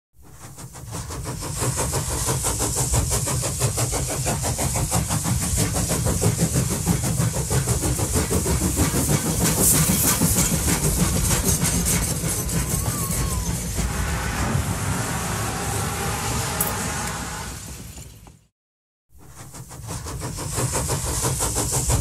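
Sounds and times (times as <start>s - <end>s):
hiss: 0.2s - 17.9s, 19.2s - 22.0s
train running with rhythmic beat: 0.2s - 18.4s, 19.1s - 22.0s.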